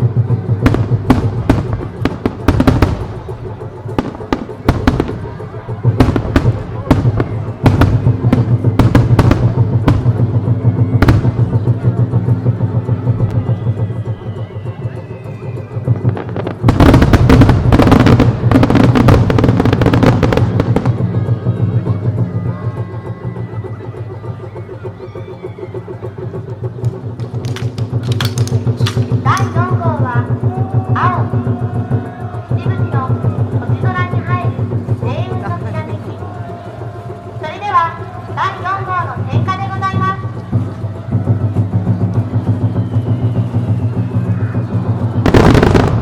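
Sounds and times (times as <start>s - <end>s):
fireworks bursts and crackles: 0.0s - 46.0s
music: 0.0s - 46.0s.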